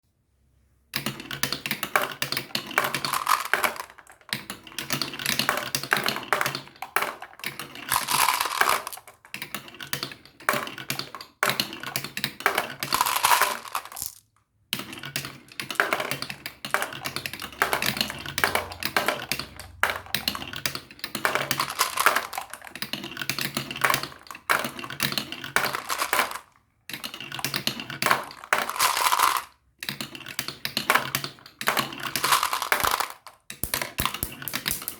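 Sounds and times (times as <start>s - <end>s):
marbles rattling down plastic run: 1.2s - 14.2s, 14.8s - 34.9s.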